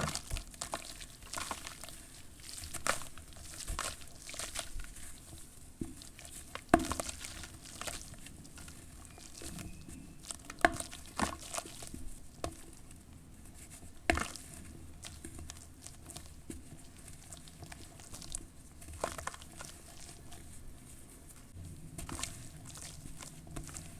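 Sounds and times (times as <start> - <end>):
charcoal ash crunching: 0.0 - 23.9
soft crackling and pattering: 0.0 - 23.9.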